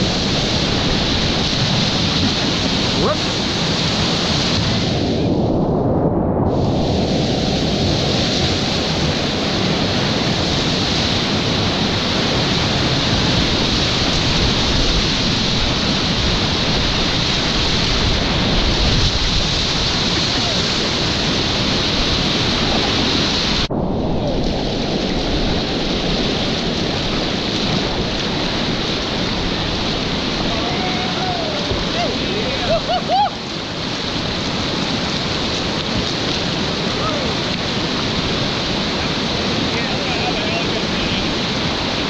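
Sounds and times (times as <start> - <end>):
whitewater rapids rushing: 0.0 - 5.3, 6.6 - 42.0.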